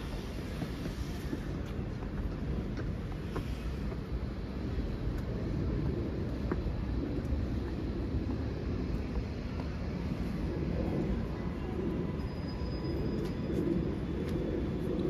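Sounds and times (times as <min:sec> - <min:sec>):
low rumble of city ambience: 0:00.0 - 0:15.0.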